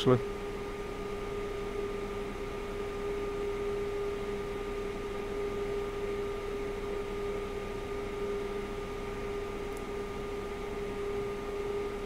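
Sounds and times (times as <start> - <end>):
electrical buzzing hum: 0.0 - 12.0
high electrical whine: 0.0 - 12.0.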